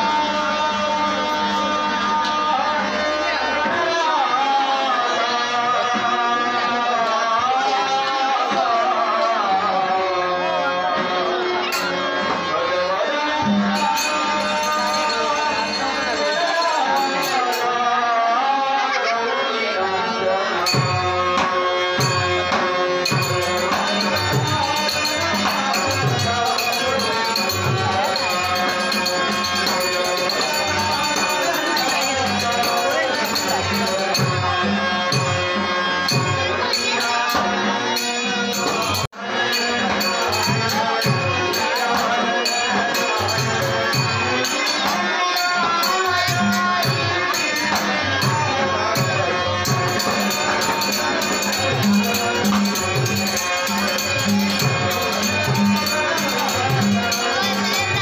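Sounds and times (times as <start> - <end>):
harmonium chords: 0.0 - 58.0
man singing in a high voice: 0.0 - 58.0.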